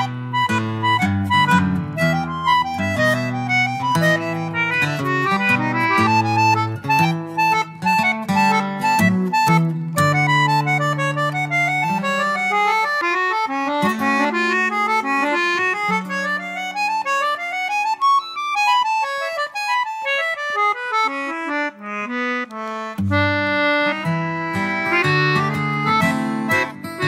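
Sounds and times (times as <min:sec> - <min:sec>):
instrumental background music: 0:00.0 - 0:27.0.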